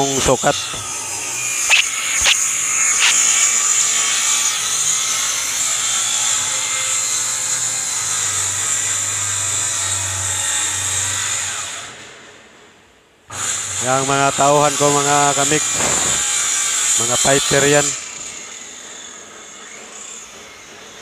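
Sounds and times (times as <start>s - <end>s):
circular saw cutting plywood: 0.0s - 11.9s, 13.3s - 21.0s.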